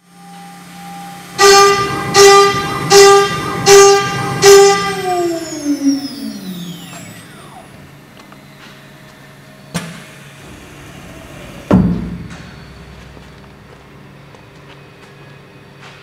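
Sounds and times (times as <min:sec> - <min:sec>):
spindle whine winding down: 0:00.0 - 0:14.8
machine hum: 0:00.0 - 0:16.0.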